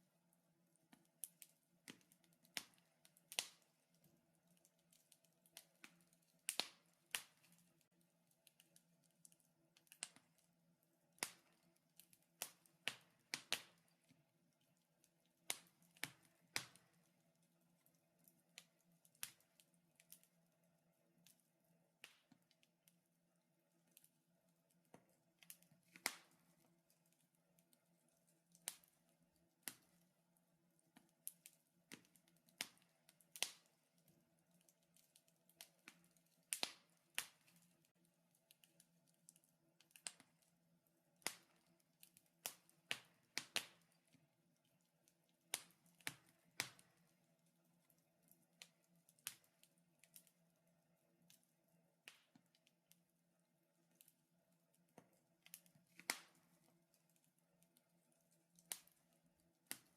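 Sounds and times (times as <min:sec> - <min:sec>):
wood fire crackling and popping: 0:00.8 - 0:21.4, 0:22.0 - 0:23.0, 0:23.8 - 0:30.1, 0:30.8 - 0:51.4, 0:52.0 - 0:53.0, 0:54.9 - 0:59.9.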